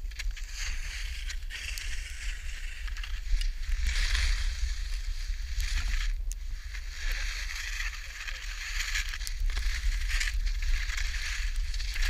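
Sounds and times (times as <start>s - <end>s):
skis scraping over snow: 0.0s - 12.0s
wind on microphone: 0.0s - 12.0s.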